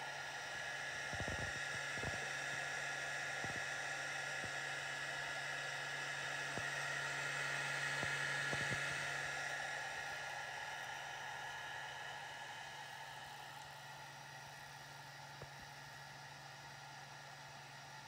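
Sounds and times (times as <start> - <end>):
cooling fan whirring: 0.0 - 18.0.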